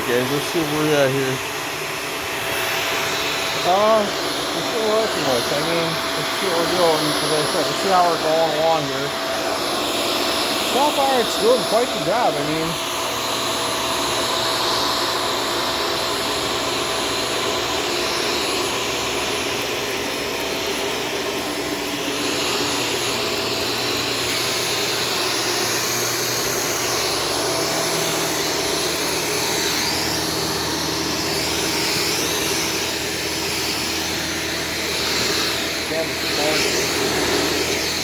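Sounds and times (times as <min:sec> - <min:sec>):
vacuum cleaner running: 0:00.0 - 0:38.0.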